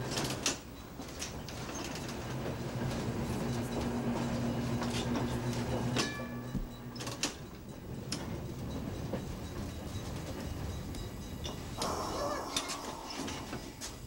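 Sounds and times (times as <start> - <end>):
streetcar low hum: 0.0 - 14.0.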